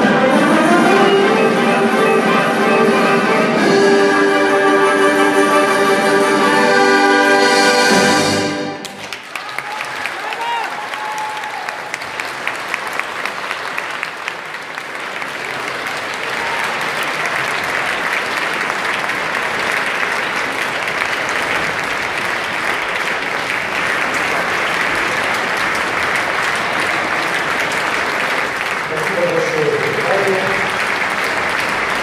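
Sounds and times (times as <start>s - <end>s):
audience applauding: 4.6s - 32.0s.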